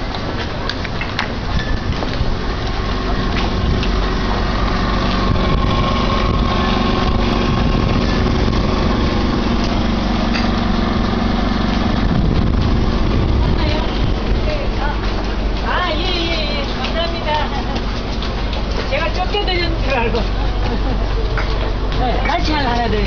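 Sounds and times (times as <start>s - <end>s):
motor humming: 2.2s - 23.0s.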